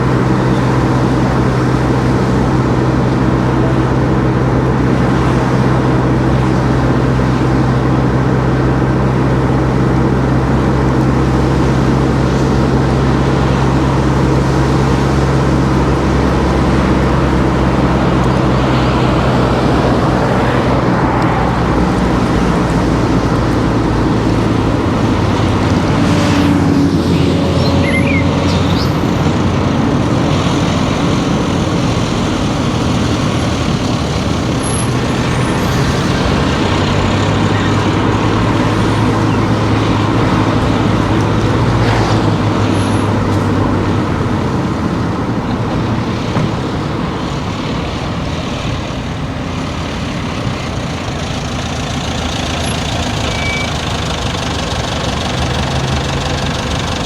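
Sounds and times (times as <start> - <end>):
car engine running: 0.0 - 57.0
passing traffic: 0.0 - 57.0
tyre and road noise: 0.0 - 57.0.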